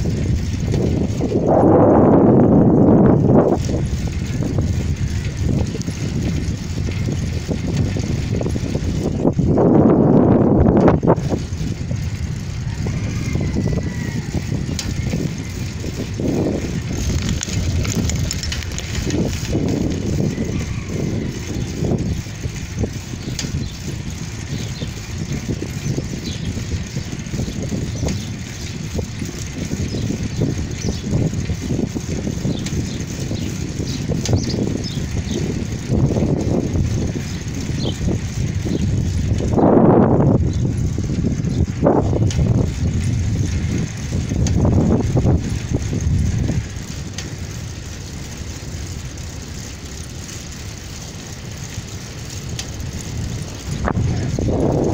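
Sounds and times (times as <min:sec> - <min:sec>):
tyres rolling on asphalt: 0:00.0 - 0:54.9
wind buffeting microphone: 0:00.0 - 0:54.9.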